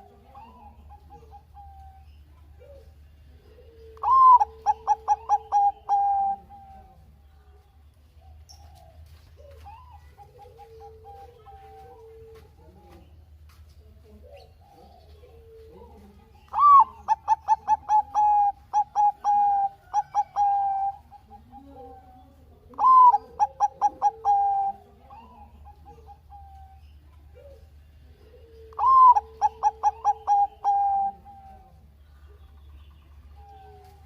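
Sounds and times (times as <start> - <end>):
faint low cooing: 0.0 - 13.2, 13.8 - 34.0
dove singing: 0.0 - 34.0.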